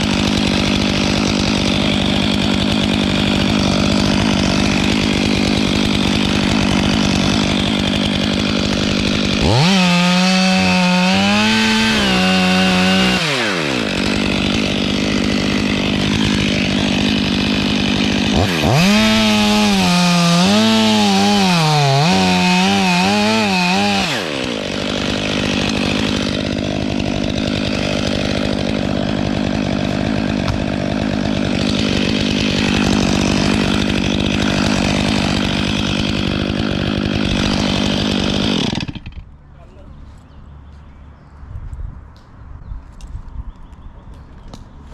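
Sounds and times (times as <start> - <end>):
chainsaw revving and cutting wood: 0.0 - 40.4.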